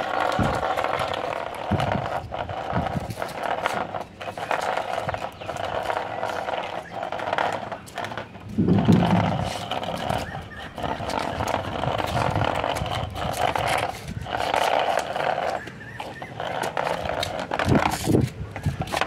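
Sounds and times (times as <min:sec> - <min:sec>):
plastic toy rolling on concrete: 0:00.0 - 0:19.0.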